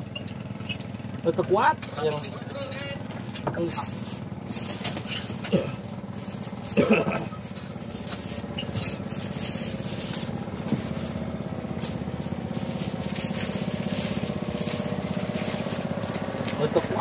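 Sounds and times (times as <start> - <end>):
boat engine puttering: 0.0 - 17.0.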